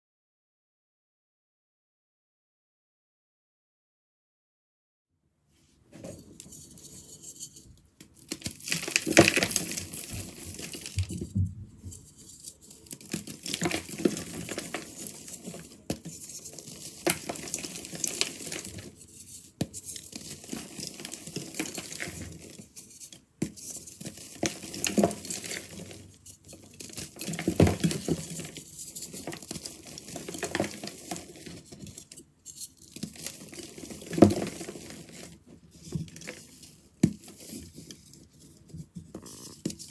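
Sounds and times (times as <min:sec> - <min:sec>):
powder and crumbs pattering: 0:06.4 - 0:39.9
chalk blocks crunching by hand: 0:06.6 - 0:39.9.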